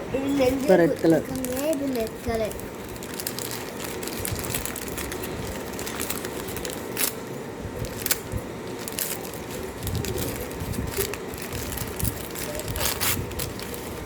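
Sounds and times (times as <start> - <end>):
packets rustling: 0.4 - 14.0.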